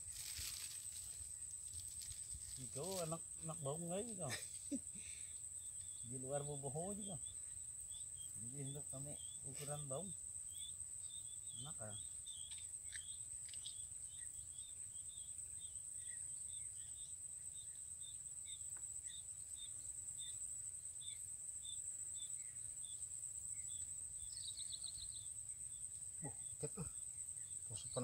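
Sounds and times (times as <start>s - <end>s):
high-pitched insect drone: 0.0s - 28.0s
insect chirps: 0.0s - 28.0s.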